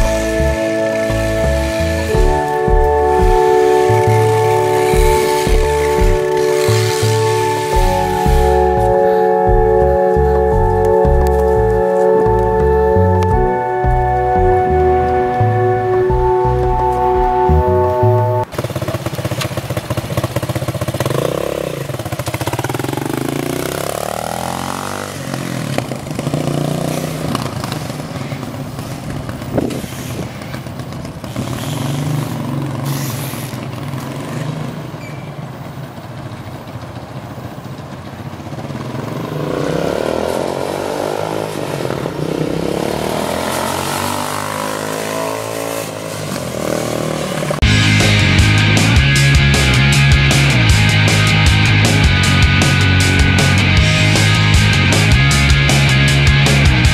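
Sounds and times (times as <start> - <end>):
atv engine revving: 0.0 - 17.2, 18.2 - 56.9.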